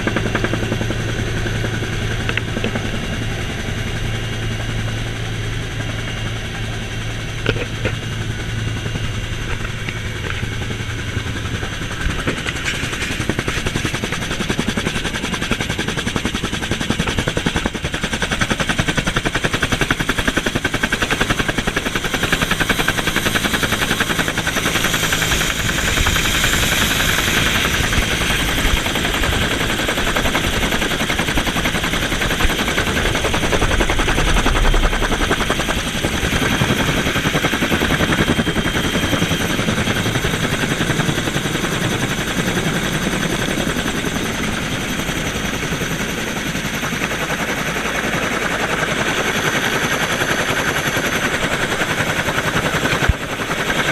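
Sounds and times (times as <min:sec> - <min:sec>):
helicopter engine whine: 0:00.0 - 0:53.9
helicopter rotor chop: 0:00.0 - 0:53.9.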